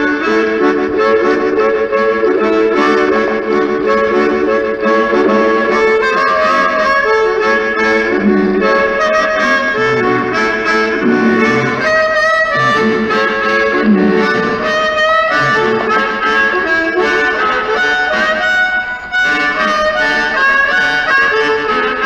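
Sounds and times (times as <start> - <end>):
blues harmonica solo: 0.0 - 22.0
low accompanying tones: 0.0 - 22.0.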